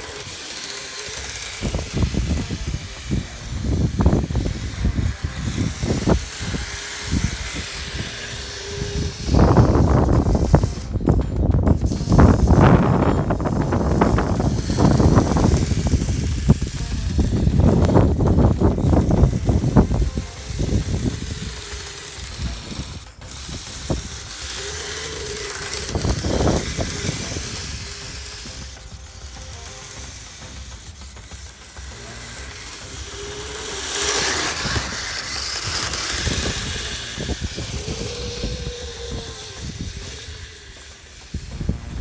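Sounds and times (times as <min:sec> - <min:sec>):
electric motor whining: 0:00.0 - 0:42.0
plastic tracks clattering: 0:00.0 - 0:42.0
steady hiss: 0:00.0 - 0:42.0.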